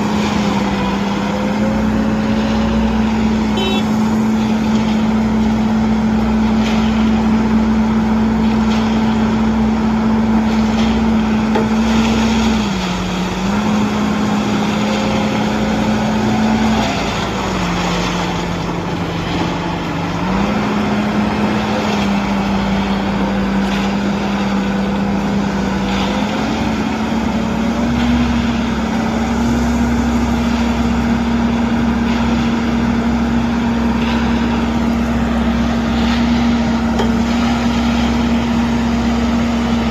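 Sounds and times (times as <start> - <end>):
diesel engine at high revs: 0.0 - 39.9.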